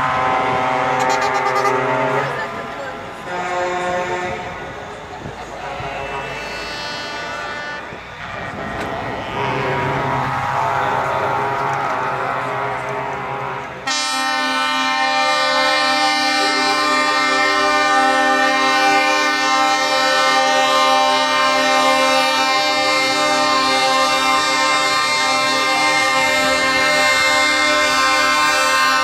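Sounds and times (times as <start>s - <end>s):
truck air horns chord: 0.0s - 29.0s
truck engine rumble: 0.0s - 29.0s.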